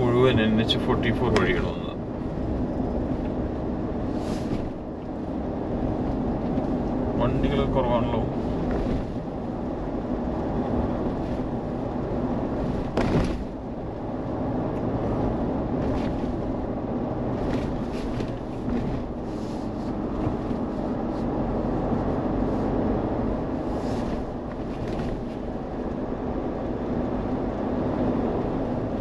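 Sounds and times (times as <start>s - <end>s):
car engine and road noise: 0.0s - 29.0s
tyres rumbling: 0.0s - 29.0s.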